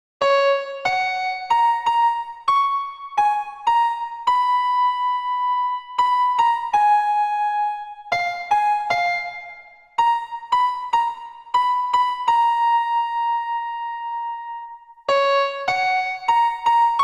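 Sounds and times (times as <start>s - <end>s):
slow electric piano melody: 0.2s - 17.0s.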